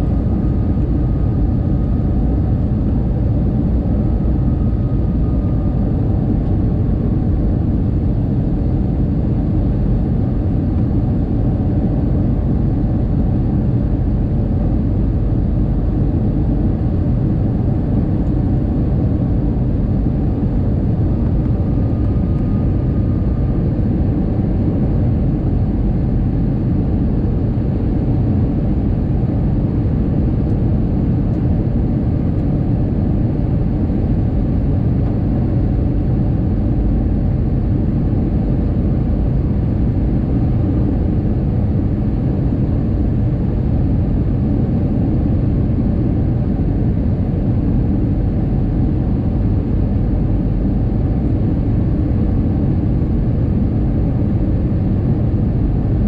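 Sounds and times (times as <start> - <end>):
aircraft cabin engine and airflow roar: 0.0 - 56.0.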